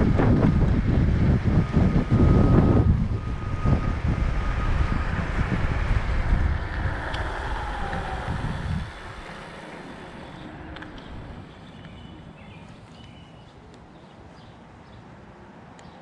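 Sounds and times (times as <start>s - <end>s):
wind buffeting microphone: 0.0s - 13.4s
road rumble: 0.0s - 16.0s.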